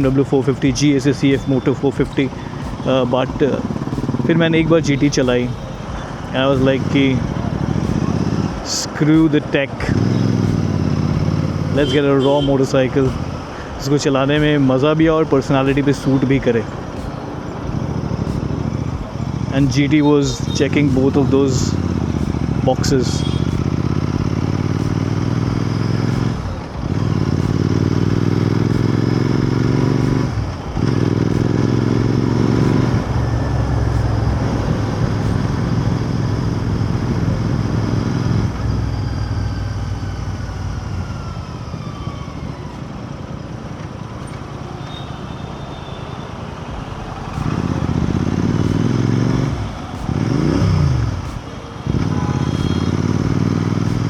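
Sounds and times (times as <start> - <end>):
motorcycle engine accelerating: 0.0 - 44.8, 46.6 - 54.0.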